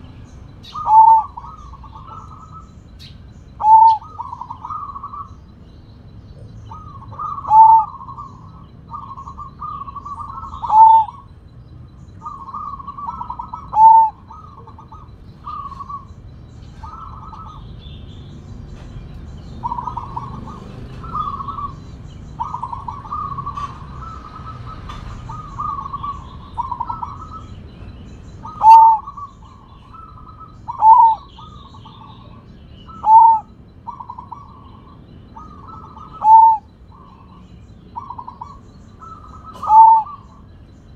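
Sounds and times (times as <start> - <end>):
dove cooing song: 0.0 - 40.9.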